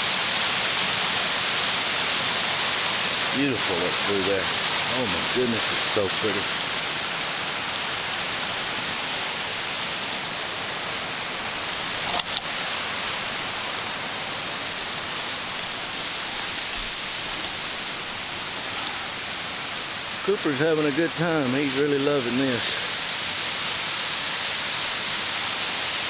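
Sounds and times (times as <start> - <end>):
creek rushing: 0.0 - 26.0.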